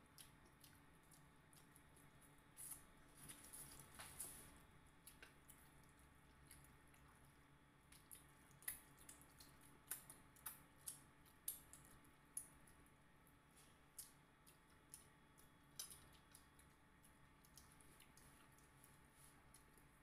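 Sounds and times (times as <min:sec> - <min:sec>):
wet chewing and lip smacks: 0:00.0 - 0:12.9, 0:13.6 - 0:20.0
faint low hum: 0:00.0 - 0:20.0.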